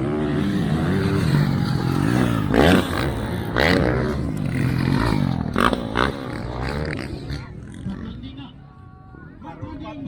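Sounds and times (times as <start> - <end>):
motocross bike engines revving: 0.0 - 8.7.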